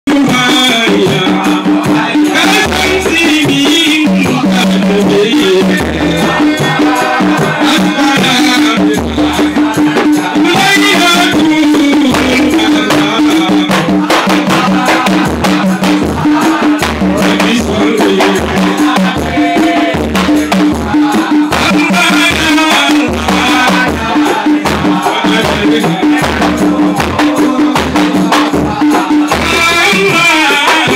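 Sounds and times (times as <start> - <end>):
frame drums beaten: 0.1 - 30.9
person singing amplified: 0.1 - 30.9.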